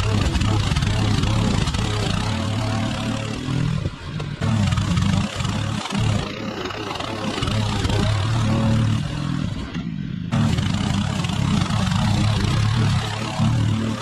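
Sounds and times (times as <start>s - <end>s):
grass being cut rushing: 0.0s - 14.0s
lawn mower engine running: 0.0s - 14.0s.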